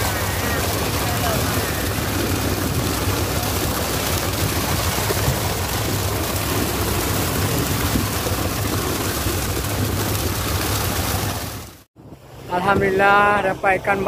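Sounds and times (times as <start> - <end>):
fish thrashing and splashing: 0.0 - 11.9
boat engine humming: 0.0 - 14.0.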